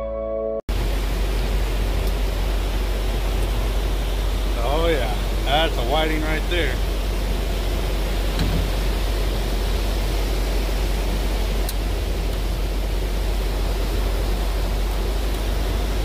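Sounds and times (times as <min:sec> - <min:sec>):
surf breaking on beach: 0:00.7 - 0:16.0.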